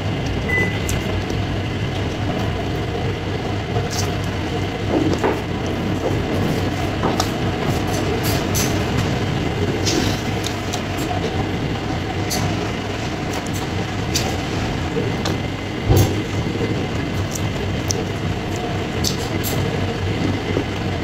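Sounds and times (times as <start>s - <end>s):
rumbling background hum: 0.0s - 21.0s.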